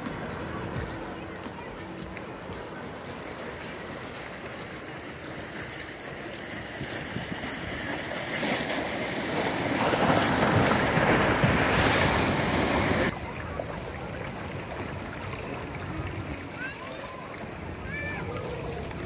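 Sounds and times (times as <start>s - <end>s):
small waves washing in: 0.0s - 19.0s.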